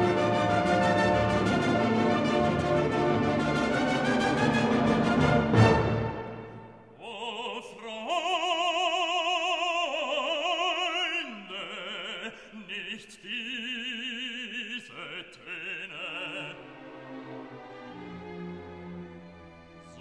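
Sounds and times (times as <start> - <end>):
operatic singing with vibrato: 0.0 - 17.6.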